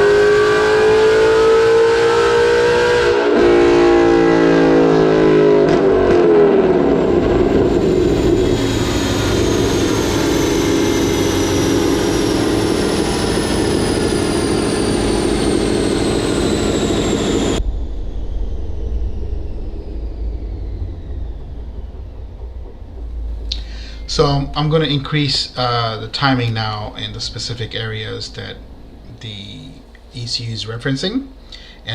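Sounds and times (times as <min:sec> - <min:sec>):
car engine revs falling: 0:00.0 - 0:30.2
driveline and roller whine: 0:00.0 - 0:31.9.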